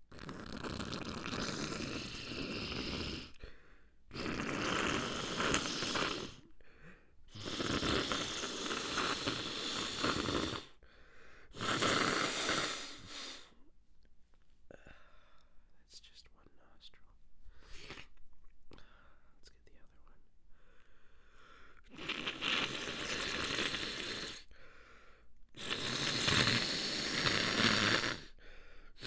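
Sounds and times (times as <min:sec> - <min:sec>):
person breathing through congested nose: 0:00.4 - 0:13.7, 0:14.7 - 0:15.6, 0:17.4 - 0:18.1, 0:18.7 - 0:19.4, 0:20.5 - 0:29.0.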